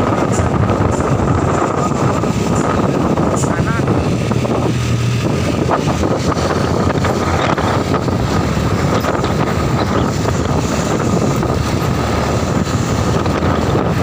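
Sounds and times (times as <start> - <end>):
loud rushing noise: 0.0 - 14.0
wind buffeting microphone: 0.0 - 14.0.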